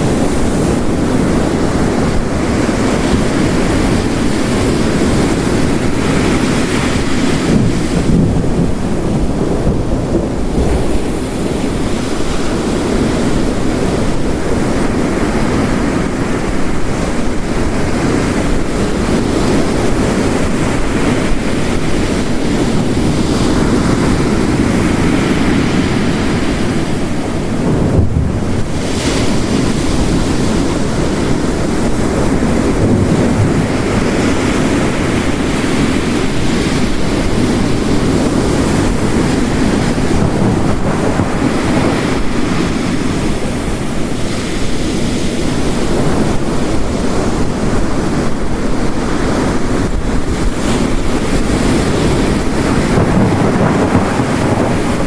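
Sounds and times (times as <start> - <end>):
heavy rain: 0.0 - 55.0
ocean waves crashing: 0.0 - 55.0.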